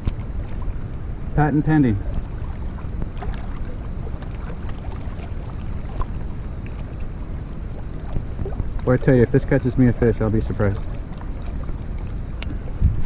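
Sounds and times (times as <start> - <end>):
faint scattered ticks: 0.0 - 13.0
waves lapping against rocks: 0.0 - 13.0
wind rumbling on microphone: 0.0 - 13.0.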